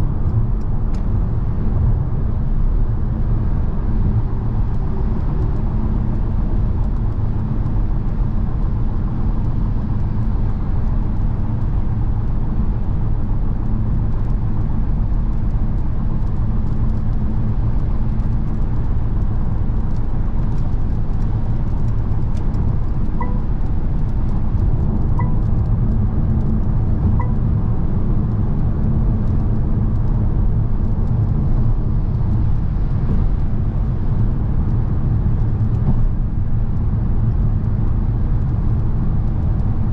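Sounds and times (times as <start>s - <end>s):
road and tyre noise: 0.0s - 39.9s
diesel engine running: 3.4s - 36.8s.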